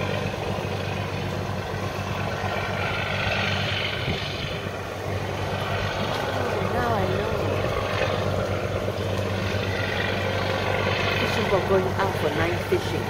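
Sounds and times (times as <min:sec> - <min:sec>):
boat engine humming: 0:00.0 - 0:13.0
rushing water: 0:00.0 - 0:13.0.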